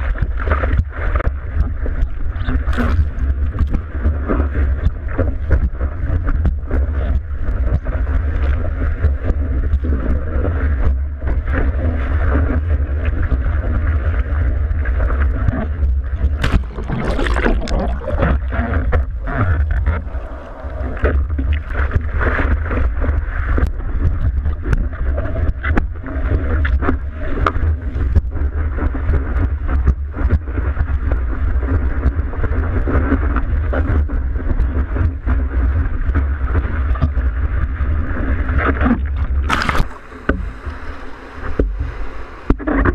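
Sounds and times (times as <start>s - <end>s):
surf water rushing and splashing: 0.0s - 42.9s
wind rumble on camera housing: 0.0s - 42.9s.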